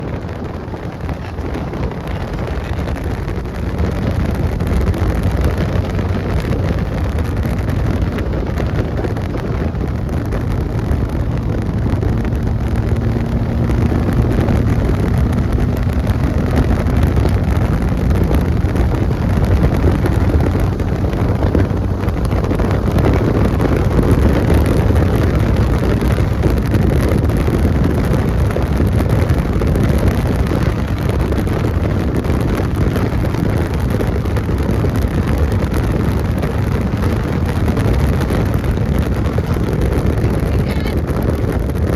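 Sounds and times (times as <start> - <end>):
race car engine running hard: 0.0 - 41.9
wind buffeting microphone: 0.0 - 41.9.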